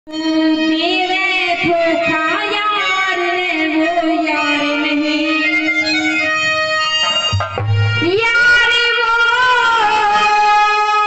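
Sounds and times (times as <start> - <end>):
instrumental accompaniment: 0.1 - 11.0.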